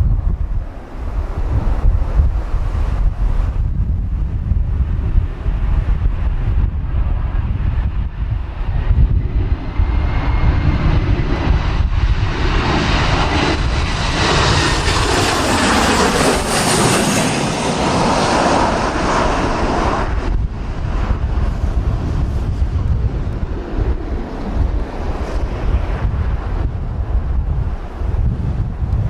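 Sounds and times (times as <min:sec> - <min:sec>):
jet engines passing: 0:00.0 - 0:29.0
wind buffeting microphone: 0:00.0 - 0:29.0.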